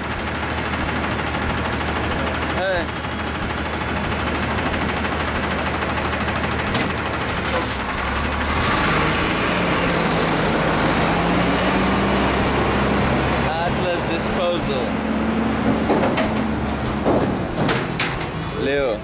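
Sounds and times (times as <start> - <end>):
garbage truck engine idling: 0.0 - 19.0.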